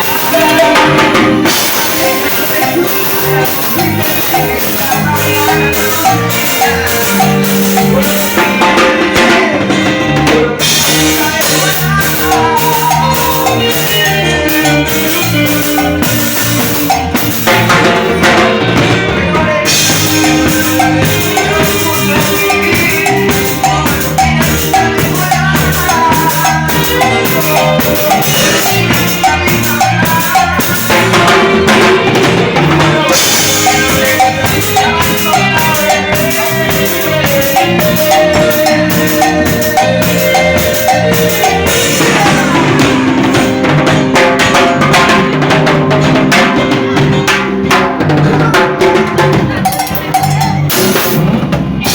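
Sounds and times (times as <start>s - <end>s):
cumbia band playing: 0.0s - 51.9s
drum kit and percussion beat: 0.0s - 51.9s.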